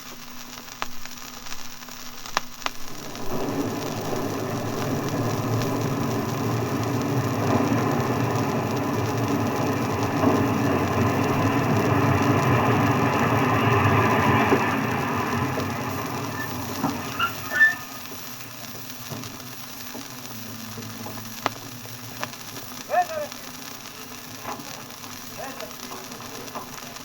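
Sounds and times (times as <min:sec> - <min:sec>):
record hiss: 0:00.0 - 0:27.0
sharp clicks: 0:00.6 - 0:27.0
train rumbling and rattling: 0:02.7 - 0:27.0.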